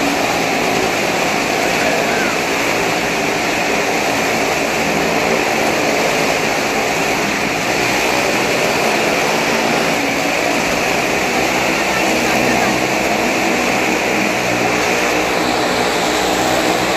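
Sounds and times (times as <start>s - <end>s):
motorcycle engines roaring: 0.0s - 16.9s.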